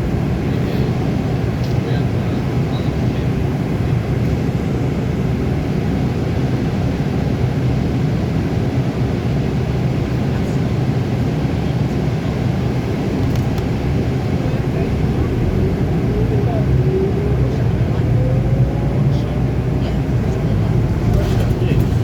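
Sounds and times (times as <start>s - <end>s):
bus diesel engine drone: 0.0s - 22.0s
road noise: 0.0s - 22.0s.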